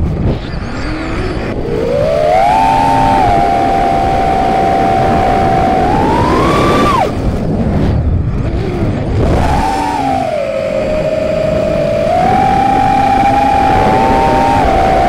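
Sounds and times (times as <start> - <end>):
drone motors whining: 0.0 - 15.0
rushing air noise: 0.0 - 15.0.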